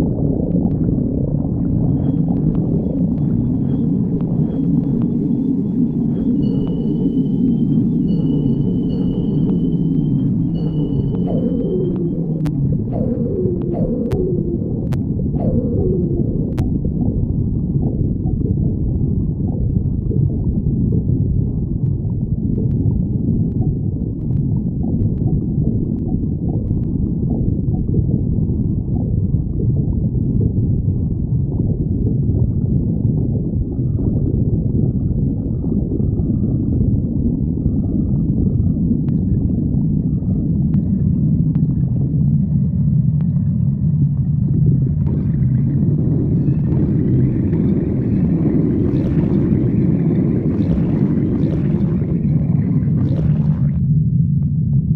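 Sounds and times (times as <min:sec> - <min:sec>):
stomach growling: 0:00.0 - 0:54.9.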